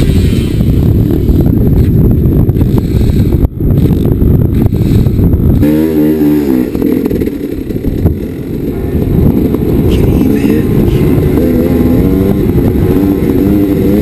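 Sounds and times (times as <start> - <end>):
dirt bike engine running: 0.0 - 14.0
wind buffeting microphone: 0.0 - 14.0.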